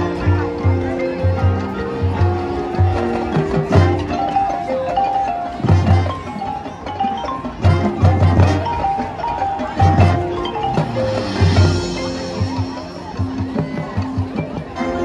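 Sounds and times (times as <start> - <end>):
mallet percussion notes: 0.0 - 15.0
marching band playing: 0.0 - 15.0.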